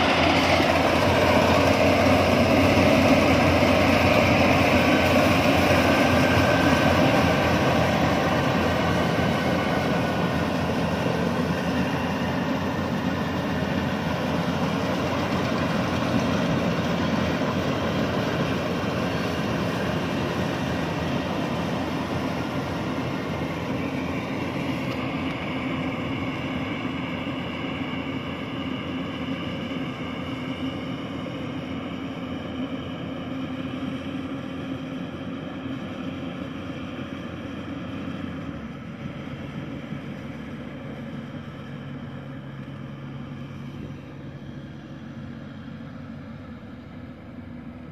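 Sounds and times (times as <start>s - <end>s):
combine harvester humming: 0.0s - 47.9s.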